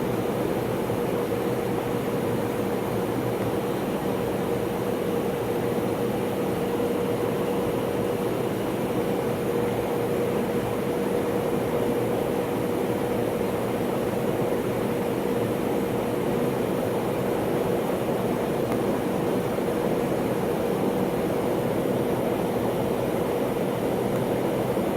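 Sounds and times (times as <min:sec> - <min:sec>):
airliner cabin engine and air noise: 0:00.0 - 0:24.9.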